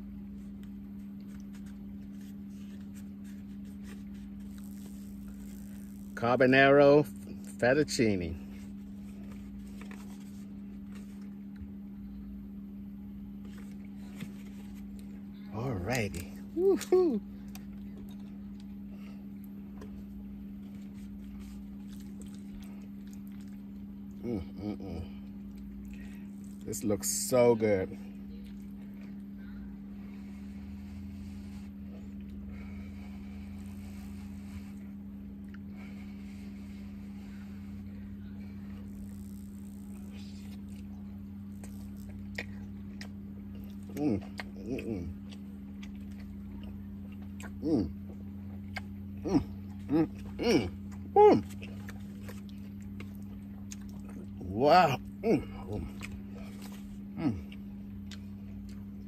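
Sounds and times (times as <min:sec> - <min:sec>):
motor humming: 0:00.0 - 0:12.3, 0:13.3 - 0:59.0.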